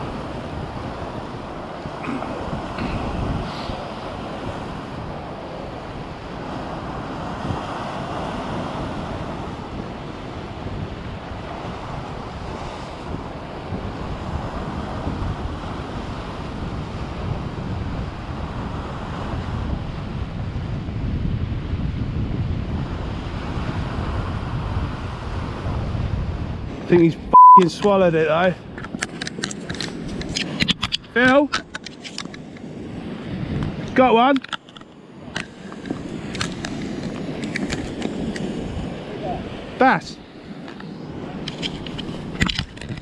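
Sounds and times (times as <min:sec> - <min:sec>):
sea waves on rocks: 0:00.0 - 0:20.1, 0:22.7 - 0:43.0
wind buffeting microphone: 0:00.0 - 0:43.0.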